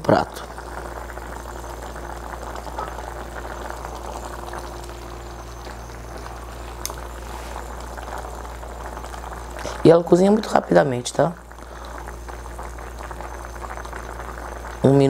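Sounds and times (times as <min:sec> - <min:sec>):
stew bubbling in pot: 0:00.0 - 0:15.0.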